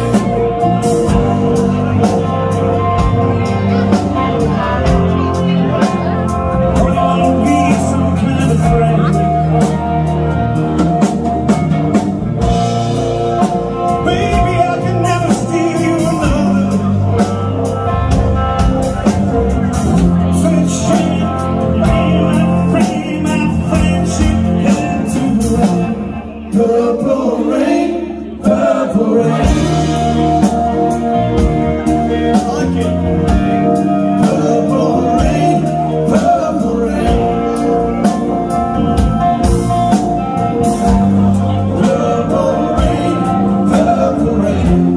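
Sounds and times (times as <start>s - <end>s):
man singing: 0.0s - 11.6s, 12.4s - 44.9s
live rock band playing: 0.0s - 44.9s.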